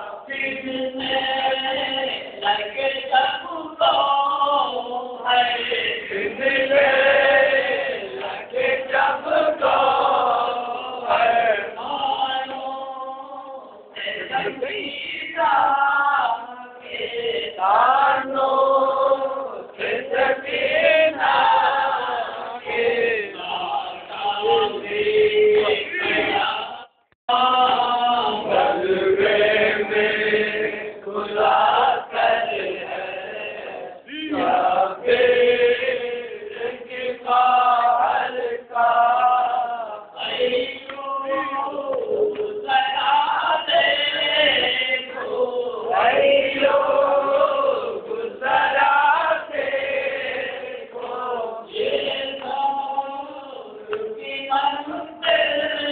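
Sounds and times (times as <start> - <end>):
men and boys chanting in unison: 0.0 - 55.9.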